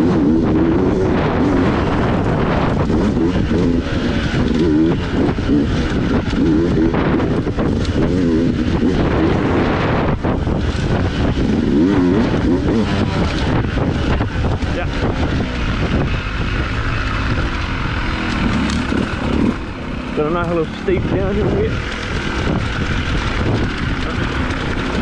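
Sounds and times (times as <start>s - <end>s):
dirt bike engine revving: 0.0s - 25.0s
rough riding noise: 0.0s - 25.0s.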